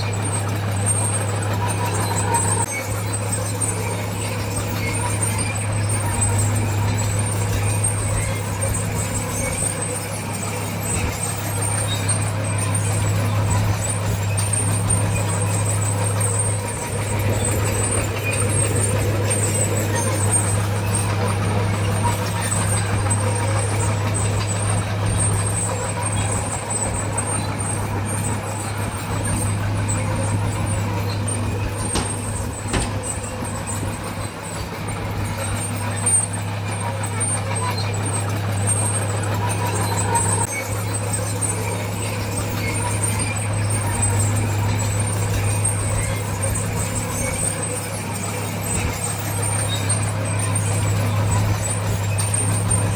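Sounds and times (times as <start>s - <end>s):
diesel machinery engine drone: 0.0s - 52.9s.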